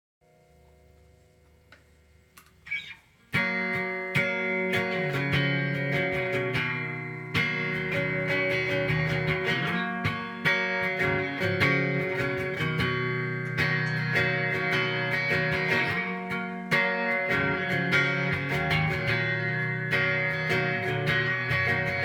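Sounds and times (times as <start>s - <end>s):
distorted electric guitar strumming: 2.7s - 22.0s.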